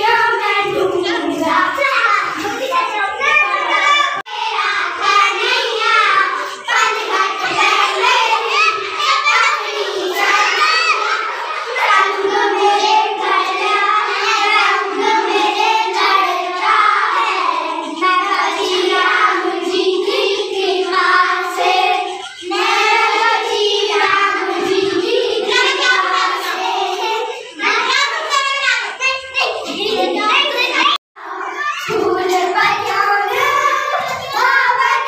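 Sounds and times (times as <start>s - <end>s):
girls singing together: 0.0s - 35.0s.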